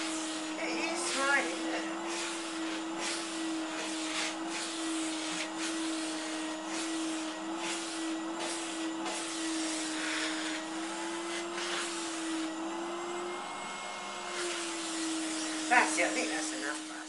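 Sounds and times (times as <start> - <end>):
suction hiss: 0.0 - 12.7, 14.2 - 17.0
vacuum cleaner humming: 0.0 - 17.0.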